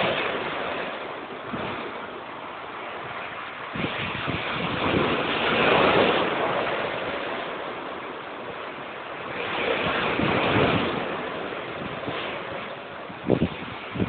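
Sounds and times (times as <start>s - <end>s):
heavy surf breaking: 0.0s - 14.0s.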